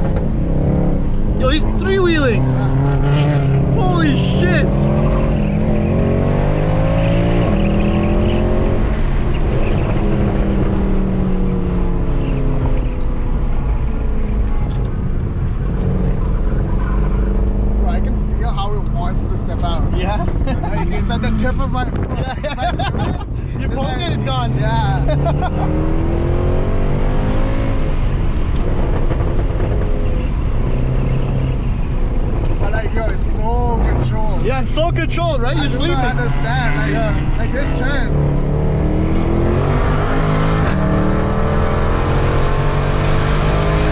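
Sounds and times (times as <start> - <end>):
car engine accelerating hard: 0.0 - 43.9.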